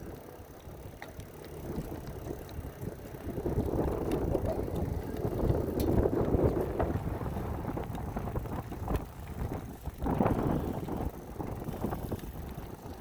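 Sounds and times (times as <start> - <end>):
bicycle road and tyre noise: 0.0 - 13.0
wind buffeting microphone: 0.8 - 13.0.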